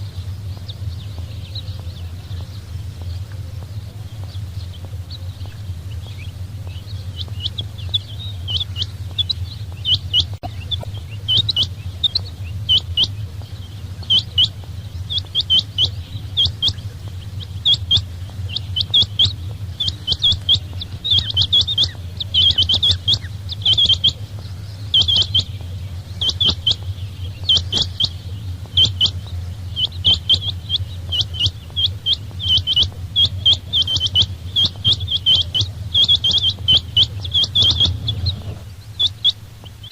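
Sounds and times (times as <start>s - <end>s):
quail chirping: 0.0s - 39.9s
steady low hum: 0.0s - 39.9s.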